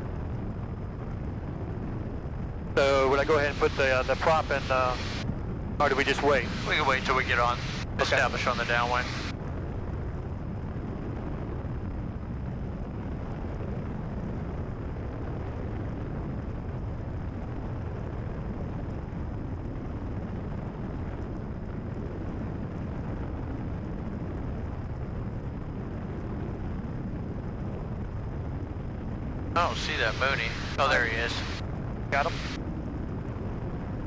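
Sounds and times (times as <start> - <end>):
airplane engine and propeller drone: 0.0 - 34.0.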